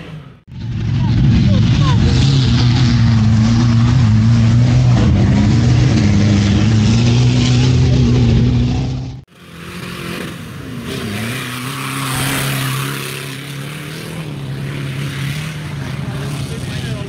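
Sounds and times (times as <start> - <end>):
off-road engines under load: 0.0 - 17.0.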